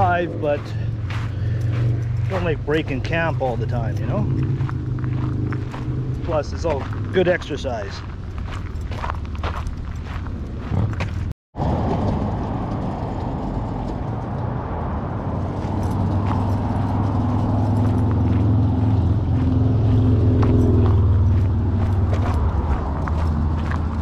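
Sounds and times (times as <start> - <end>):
footsteps on gravel: 0.0 - 11.3, 15.5 - 24.0
vehicle engine running: 0.0 - 24.0.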